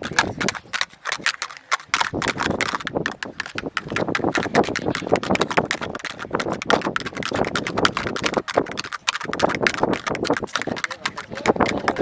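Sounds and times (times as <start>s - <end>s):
rapid tapping on plastic mold: 0.0s - 12.0s.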